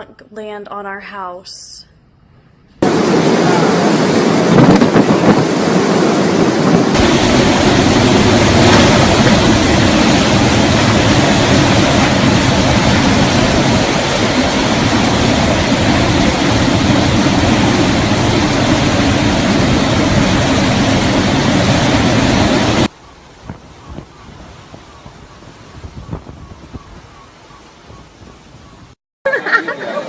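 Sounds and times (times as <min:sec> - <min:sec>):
strong wind buffeting microphone: 0:02.8 - 0:29.0.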